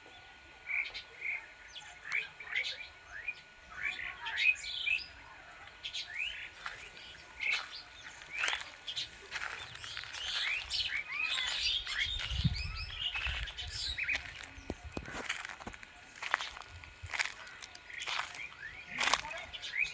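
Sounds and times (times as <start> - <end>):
birds chirping and calling: 0.7 - 19.9.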